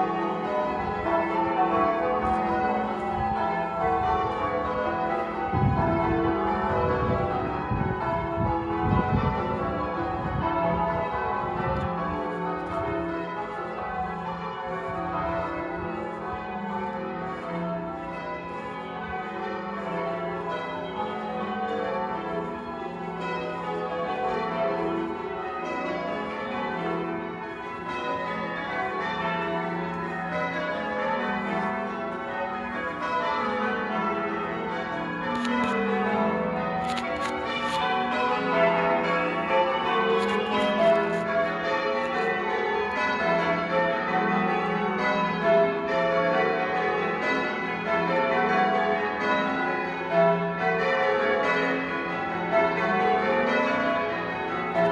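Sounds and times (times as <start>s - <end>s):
church bells ringing: 0.0s - 54.9s.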